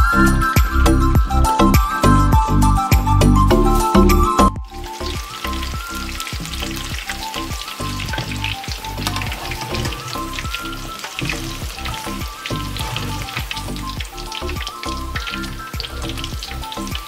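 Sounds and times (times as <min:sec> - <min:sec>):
deep-frying sizzle and crackle: 0:00.0 - 0:17.0
music with regular beat: 0:00.0 - 0:17.0.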